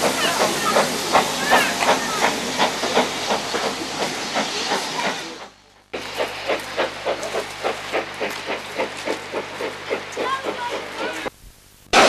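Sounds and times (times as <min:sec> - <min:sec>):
steam hiss: 0:00.0 - 0:11.3
steam locomotive exhaust chuffs: 0:00.0 - 0:11.3.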